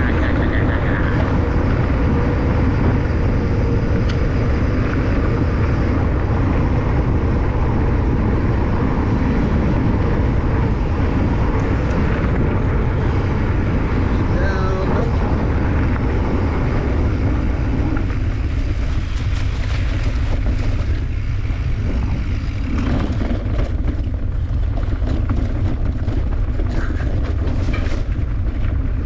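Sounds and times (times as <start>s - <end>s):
bicycle tyres on gravel: 0.0s - 29.0s
bike ticks and rattles: 0.0s - 29.0s
wind buffeting microphone: 0.0s - 29.0s.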